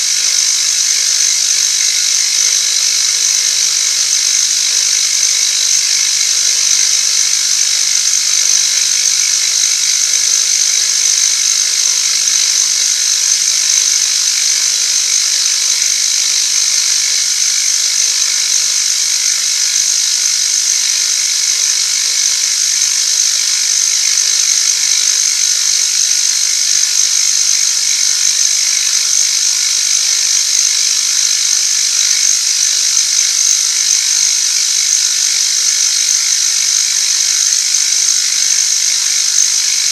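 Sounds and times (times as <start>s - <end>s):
high-pitched metal cutting hiss: 0.0s - 39.9s.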